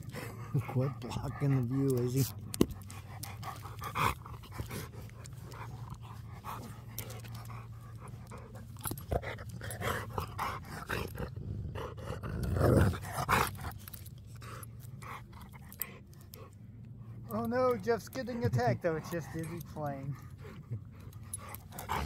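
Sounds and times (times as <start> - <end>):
dogs play-fighting: 0.0 - 22.0.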